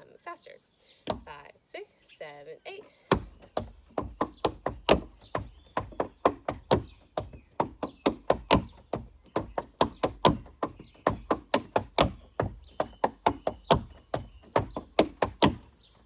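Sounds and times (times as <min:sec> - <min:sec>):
tap shoes on wooden deck: 0:01.0 - 0:01.4, 0:02.8 - 0:16.0.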